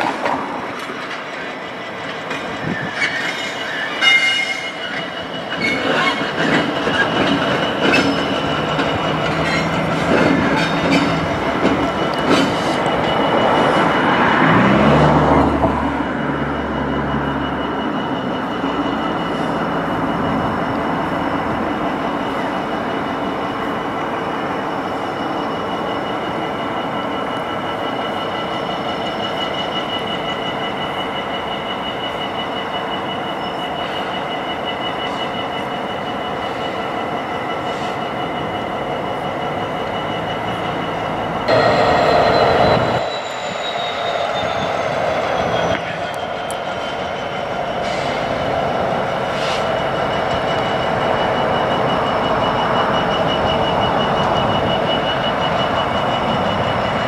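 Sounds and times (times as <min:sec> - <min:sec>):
low locomotive engine drone: 0:00.0 - 0:57.0
wheel squeal: 0:01.3 - 0:15.0, 0:24.7 - 0:57.0.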